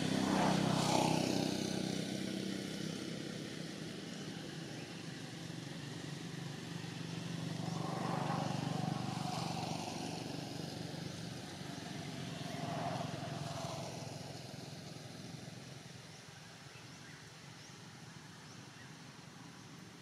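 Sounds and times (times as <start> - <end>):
vehicle engine passing by: 0.0 - 16.2.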